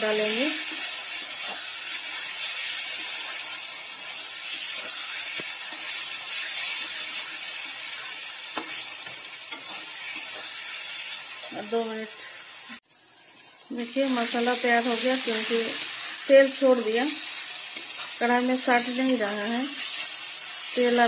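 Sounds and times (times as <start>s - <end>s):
masala sizzling in hot oil: 0.0s - 21.0s.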